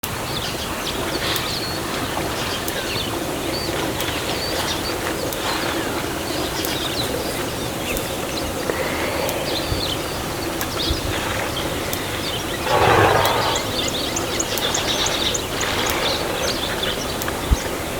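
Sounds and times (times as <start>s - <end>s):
outdoor ambience hiss: 0.1s - 17.9s
birds chirping: 0.4s - 17.9s.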